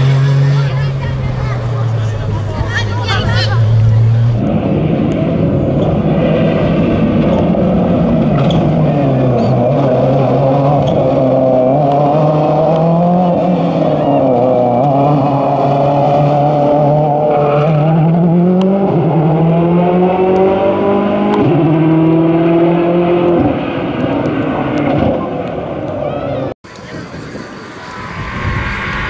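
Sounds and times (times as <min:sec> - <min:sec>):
rally car engine accelerating: 0:00.0 - 0:25.9.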